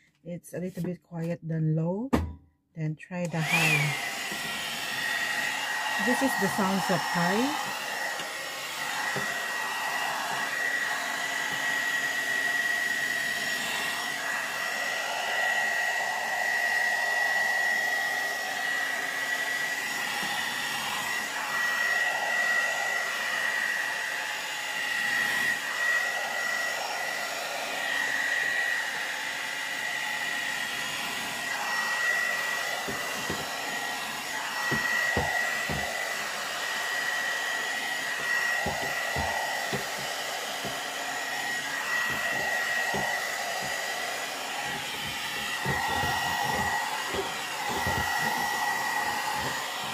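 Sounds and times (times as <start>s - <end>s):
hot air brush running: 3.3s - 49.9s.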